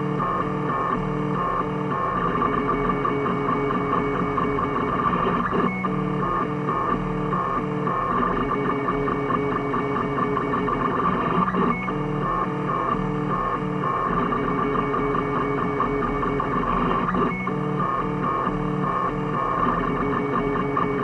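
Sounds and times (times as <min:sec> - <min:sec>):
printer stepper motors whining: 0:00.1 - 0:21.0.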